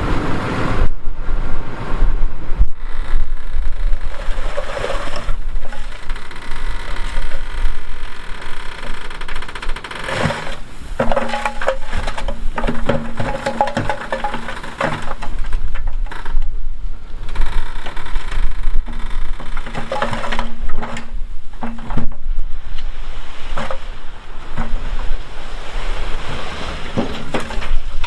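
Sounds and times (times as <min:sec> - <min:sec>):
bulldozer engine rumbling: 0:00.0 - 0:28.0
crunching and clanking: 0:02.7 - 0:28.0.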